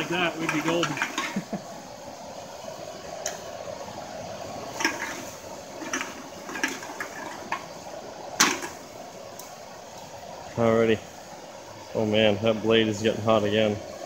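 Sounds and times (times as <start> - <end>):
furnace air rush: 0.0 - 14.0.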